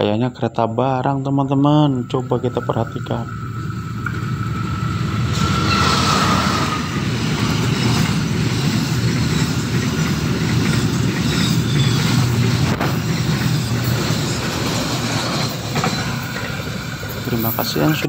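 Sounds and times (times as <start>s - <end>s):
thin high whine: 0.6s - 18.0s
train wheels rumbling and clattering: 1.2s - 18.0s.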